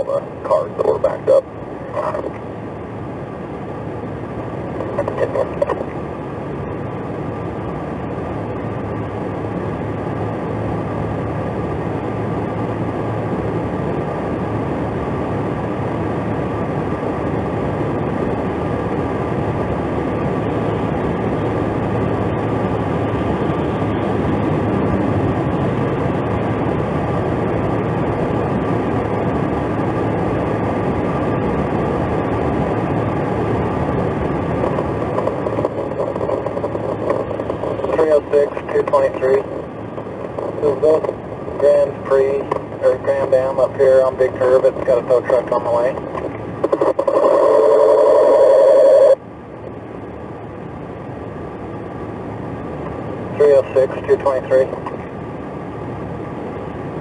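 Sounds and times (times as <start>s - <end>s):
car engine running: 0.0s - 57.0s
traffic passing: 0.0s - 57.0s.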